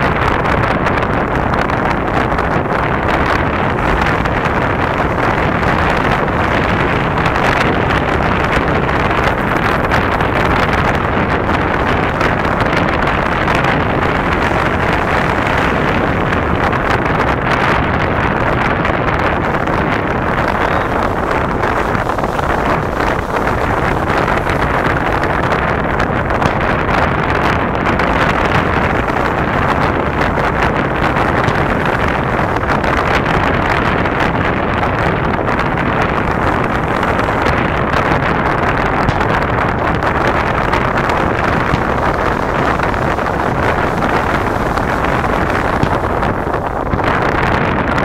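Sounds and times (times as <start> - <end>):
steady rushing noise: 0.0 - 48.0
wind buffeting microphone: 0.0 - 48.0.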